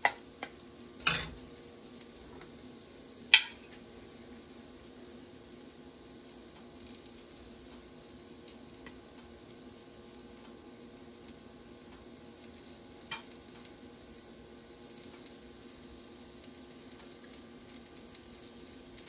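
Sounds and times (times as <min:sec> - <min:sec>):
stir-fry sizzling in a pan: 0:00.0 - 0:19.0.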